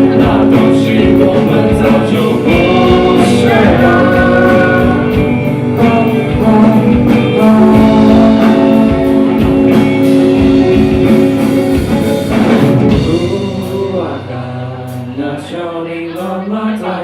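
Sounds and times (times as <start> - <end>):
drum kit beat: 0.0 - 15.2
bass guitar: 0.0 - 17.0
electric guitars: 0.0 - 17.0.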